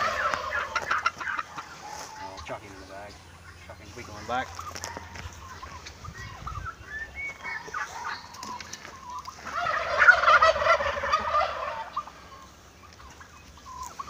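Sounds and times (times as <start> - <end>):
poultry rattling call: 0.0 - 14.0
short poultry calls: 0.0 - 14.0.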